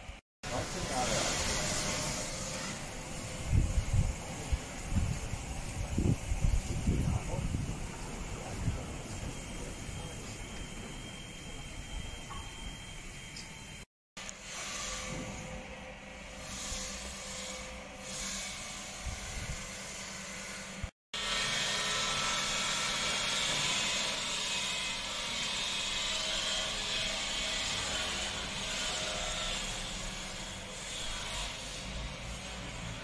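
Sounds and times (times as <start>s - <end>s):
machinery noise with hiss: 0.0s - 33.0s.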